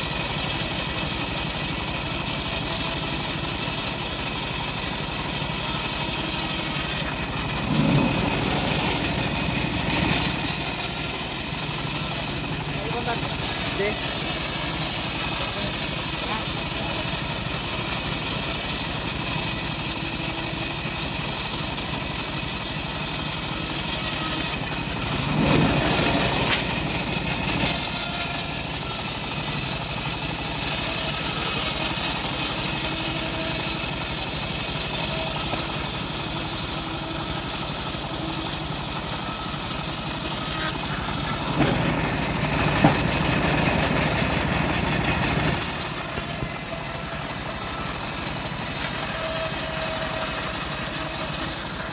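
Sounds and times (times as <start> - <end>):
chainsaw running: 0.0 - 51.9.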